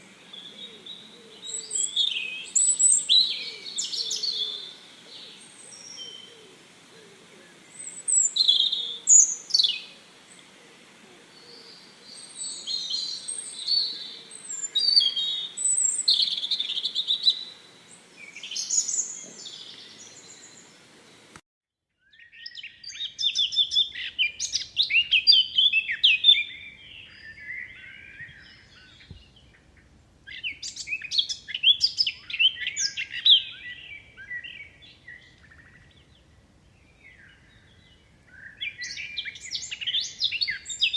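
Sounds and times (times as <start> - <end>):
songbirds chirping and singing: 0.0 - 21.4, 22.1 - 40.9.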